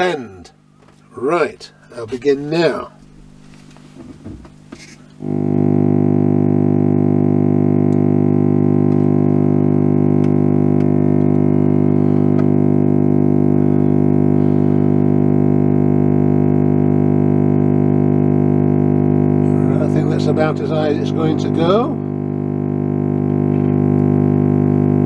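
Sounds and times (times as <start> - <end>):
low buzzing test tone: 4.7 - 25.0.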